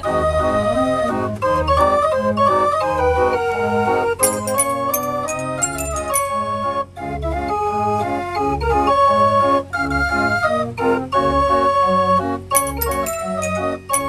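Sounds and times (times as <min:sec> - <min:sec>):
fair organ playing a tune: 0:00.0 - 0:04.2, 0:05.8 - 0:14.0.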